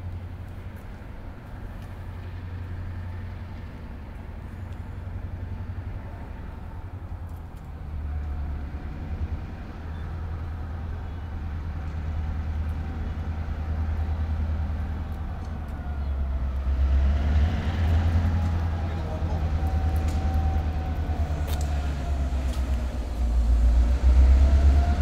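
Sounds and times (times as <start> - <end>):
train locomotive rumbling: 0.0 - 25.0.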